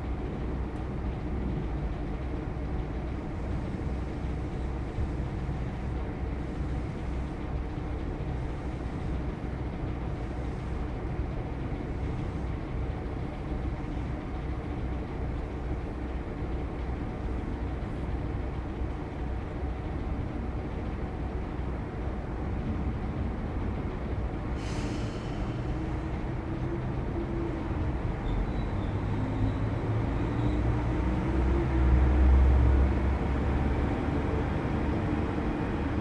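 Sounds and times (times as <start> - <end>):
diesel railcar engine running: 0.0 - 36.0.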